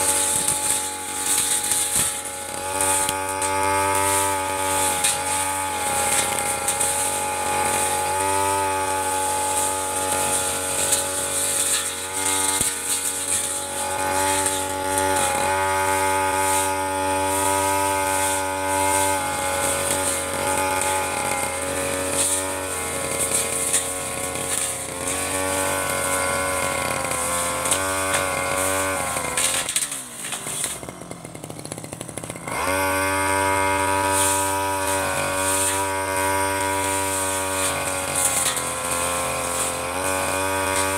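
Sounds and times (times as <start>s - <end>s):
blade cutting grass: 0.0s - 40.9s
brush cutter engine running: 0.0s - 40.9s.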